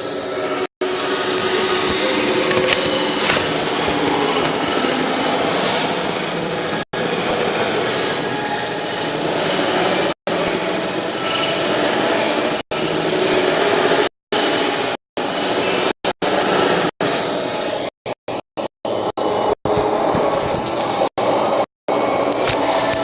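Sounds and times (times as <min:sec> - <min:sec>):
harsh noise texture: 0:00.0 - 0:23.0.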